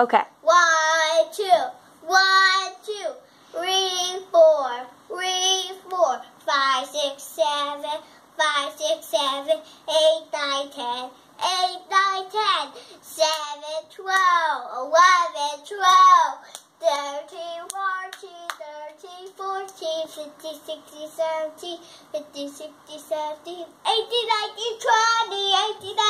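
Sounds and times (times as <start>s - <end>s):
boy singing unaccompanied: 0.4s - 26.0s.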